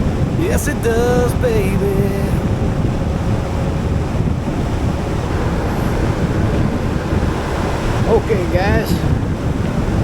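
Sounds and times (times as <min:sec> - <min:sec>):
scooter engine and road noise: 0:00.0 - 0:10.0
wind buffeting microphone: 0:00.0 - 0:10.0.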